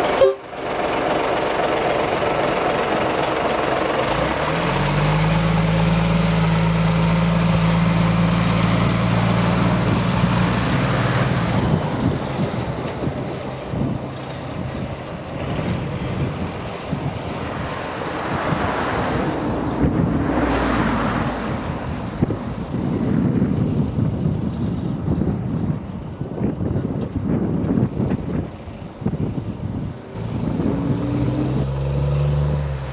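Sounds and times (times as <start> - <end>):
diesel locomotive passing: 0.0 - 32.9.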